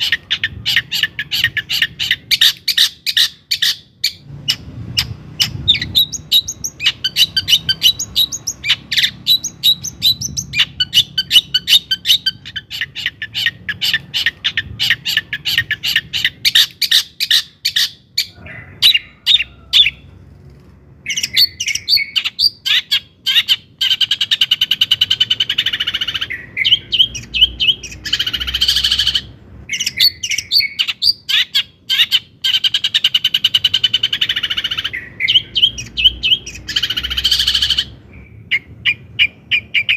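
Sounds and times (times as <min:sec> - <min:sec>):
bird chattering song: 0:00.0 - 0:20.0, 0:21.0 - 0:39.9.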